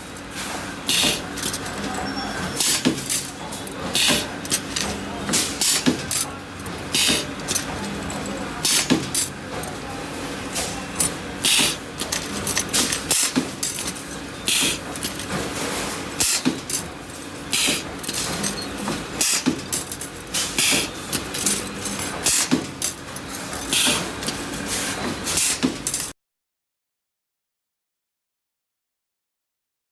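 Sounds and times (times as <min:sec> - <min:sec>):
welding machine hum: 0:00.0 - 0:26.1.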